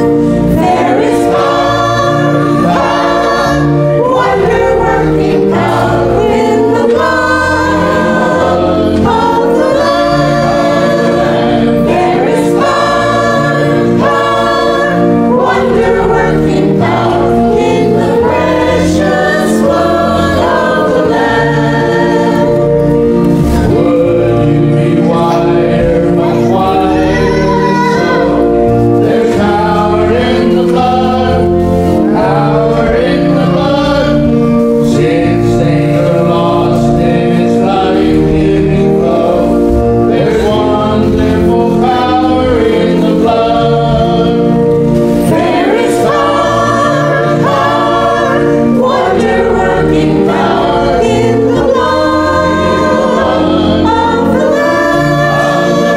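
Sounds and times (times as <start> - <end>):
church choir singing: 0.0 - 55.9.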